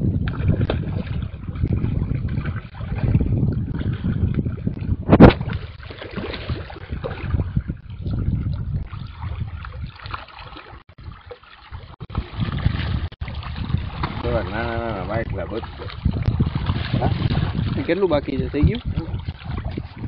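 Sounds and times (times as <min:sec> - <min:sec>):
gently moving water: 0:00.0 - 0:20.0
wind buffeting microphone: 0:00.0 - 0:20.0.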